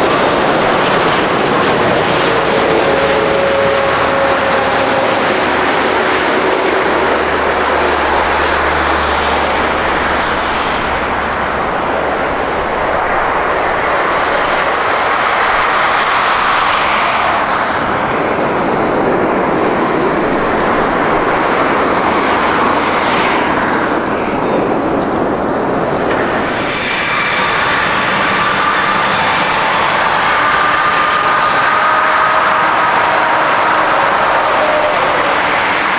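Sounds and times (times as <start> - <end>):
jet engines rushing: 0.0 - 35.9
rising engine whine: 0.0 - 35.9.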